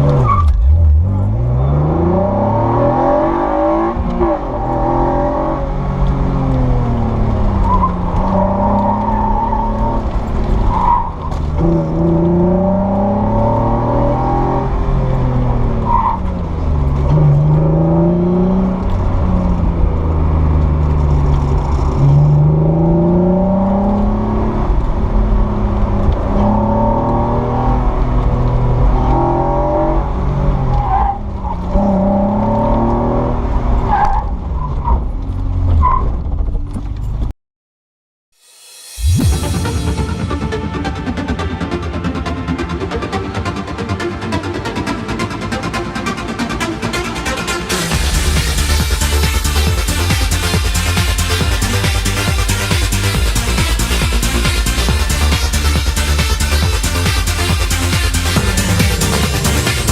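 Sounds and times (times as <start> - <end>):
car engine revving: 0.0 - 36.9, 39.0 - 59.9.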